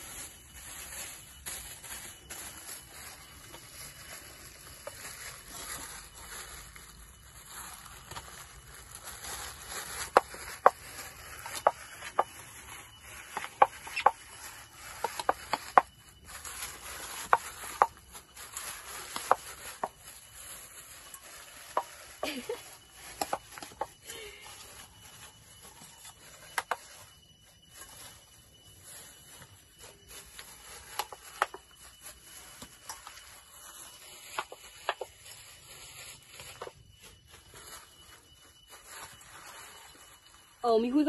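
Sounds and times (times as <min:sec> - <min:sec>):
plastic bag crinkling: 0:00.0 - 0:41.0.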